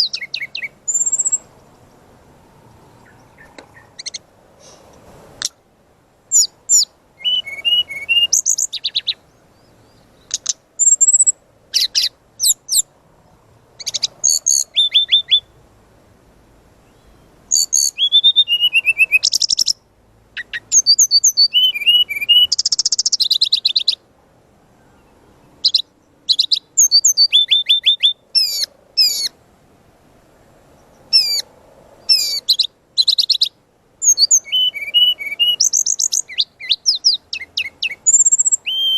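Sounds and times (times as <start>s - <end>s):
bird singing chirps and trills: 0.0s - 2.1s, 2.9s - 4.3s, 6.3s - 15.6s, 16.8s - 24.0s, 24.8s - 29.4s, 30.7s - 38.9s.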